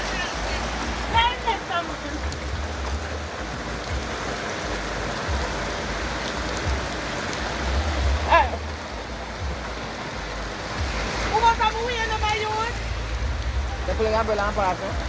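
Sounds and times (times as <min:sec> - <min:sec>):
floodwater running: 0:00.0 - 0:15.0
heavy rain: 0:00.0 - 0:15.0
low rumble: 0:02.1 - 0:15.0.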